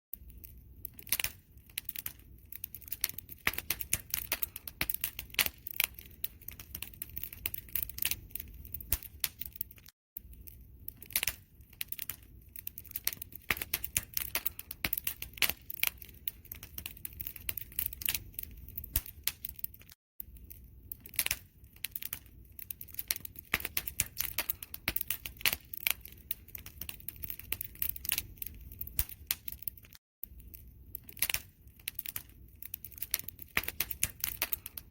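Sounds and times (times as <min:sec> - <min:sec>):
campfire popping and snapping: 0:00.1 - 0:34.9
fire rumbling: 0:00.2 - 0:34.9.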